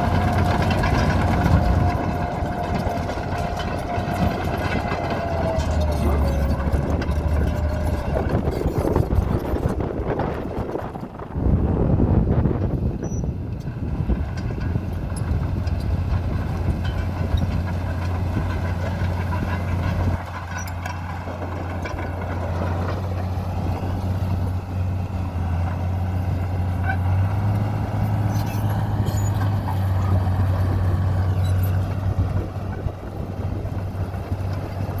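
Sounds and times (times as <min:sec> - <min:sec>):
bulldozer diesel engine droning: 0:00.0 - 0:35.0.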